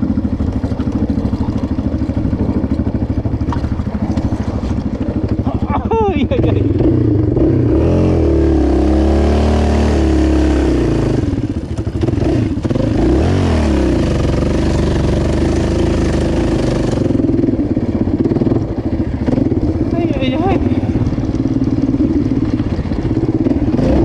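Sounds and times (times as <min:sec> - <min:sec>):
quad bike engine revving: 0:00.0 - 0:24.0.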